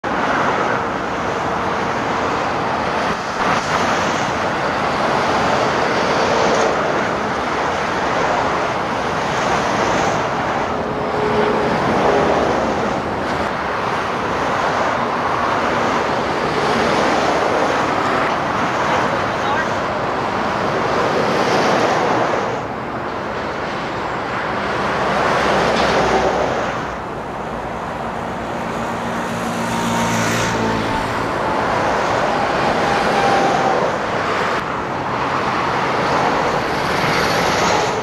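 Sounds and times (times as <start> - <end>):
motorway traffic roar: 0.0 - 38.0.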